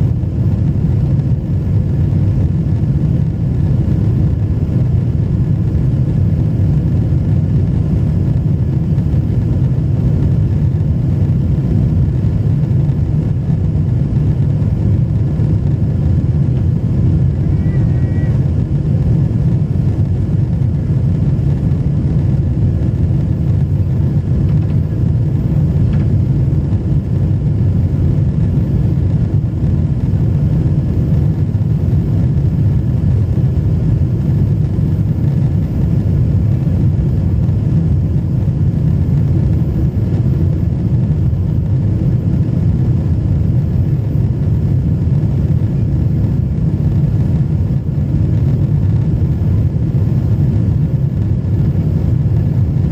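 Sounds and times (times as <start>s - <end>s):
jet airliner cabin rumble: 0.0s - 52.9s.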